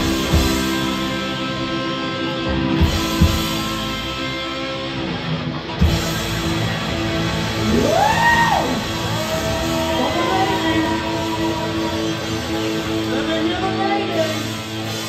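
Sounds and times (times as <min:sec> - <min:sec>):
bass guitar: 0:00.0 - 0:15.0
distorted electric guitars: 0:00.0 - 0:15.0.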